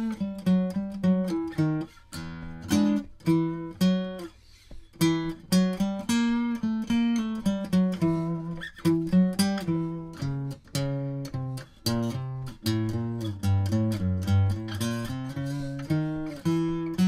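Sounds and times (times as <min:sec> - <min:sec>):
acoustic guitar playing jazz: 0:00.0 - 0:17.0.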